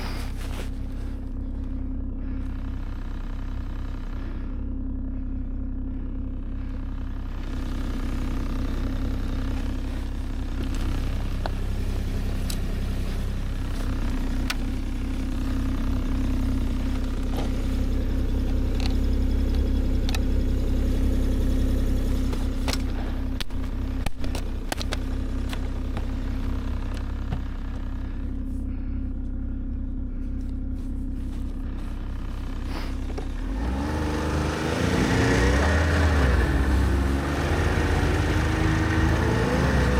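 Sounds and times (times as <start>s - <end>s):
vehicle engine running and revving: 0.0s - 39.9s.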